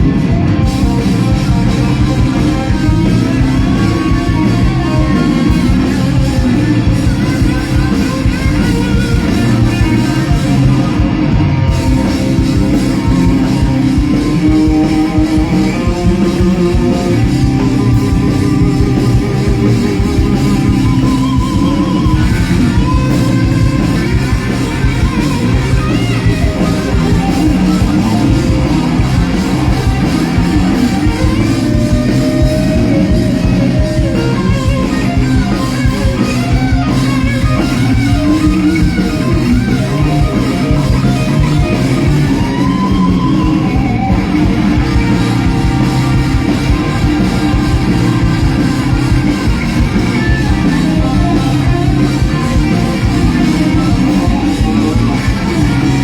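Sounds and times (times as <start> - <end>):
bass: 0.0 - 56.0
drums: 0.0 - 56.0
electric guitar: 0.0 - 56.0.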